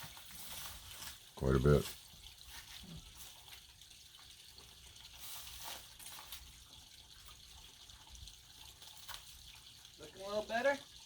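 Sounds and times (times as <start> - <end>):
faint trickling dripping water: 0.0 - 11.0.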